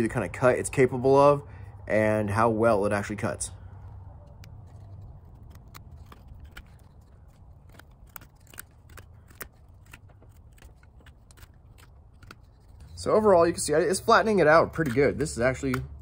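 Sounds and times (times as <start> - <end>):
knife shaving wood: 2.7 - 16.0.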